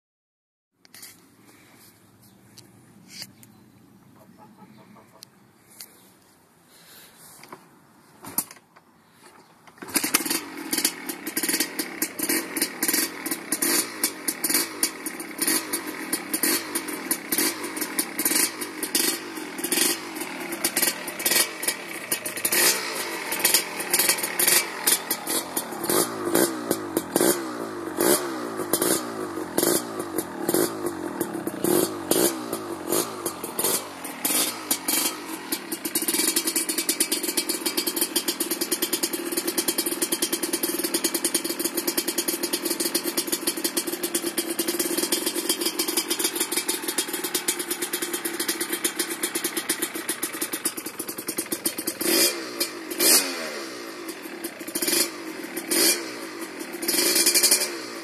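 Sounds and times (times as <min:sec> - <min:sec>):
dirt bike engine revving: 0:09.8 - 0:58.0.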